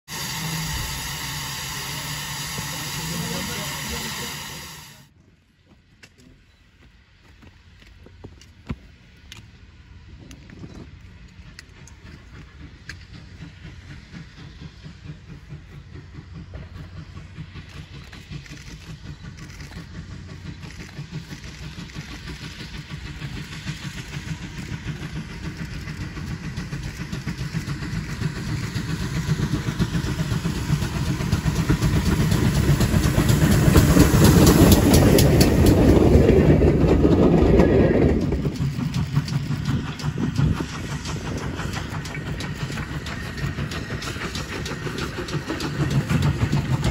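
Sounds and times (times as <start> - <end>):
steam locomotive approaching: 0.0 - 46.9.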